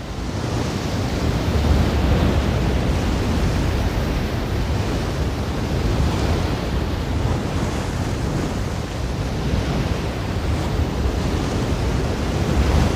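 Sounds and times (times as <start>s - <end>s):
ocean waves washing on shore: 0.0s - 12.9s.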